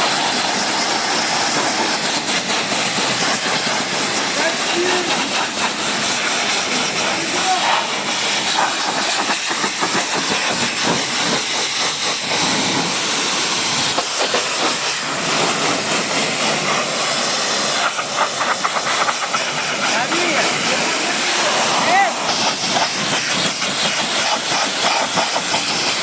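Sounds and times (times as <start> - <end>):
pressure washer spray hissing: 0.0 - 26.0.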